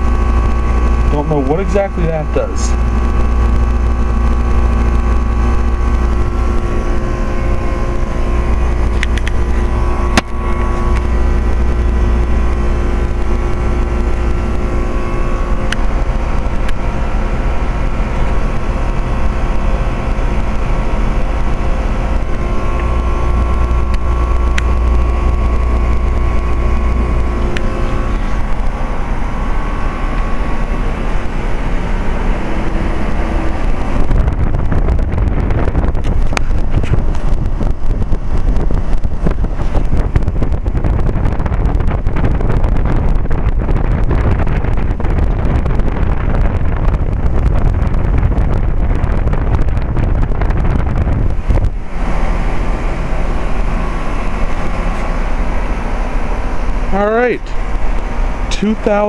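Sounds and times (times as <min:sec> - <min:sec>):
heat pump unit humming: 0:00.0 - 0:59.0.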